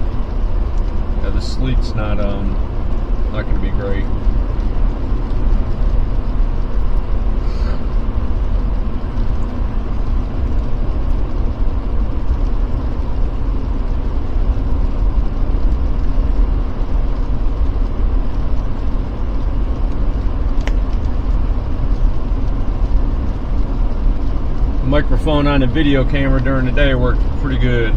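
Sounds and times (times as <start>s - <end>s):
engine and tyre rumble: 0.0s - 27.9s.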